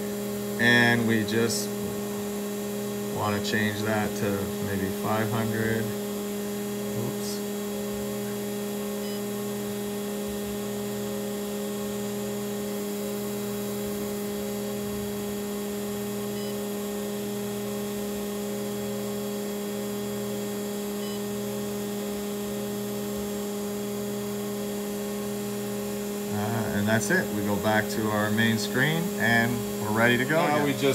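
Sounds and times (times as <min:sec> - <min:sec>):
steady electrical hum: 0:00.0 - 0:30.9.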